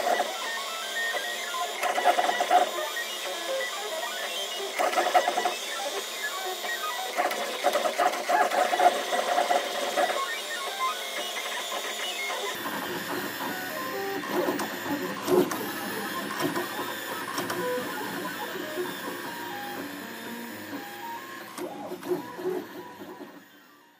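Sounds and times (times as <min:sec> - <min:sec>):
printer stepper motors whirring: 0:00.0 - 0:23.9.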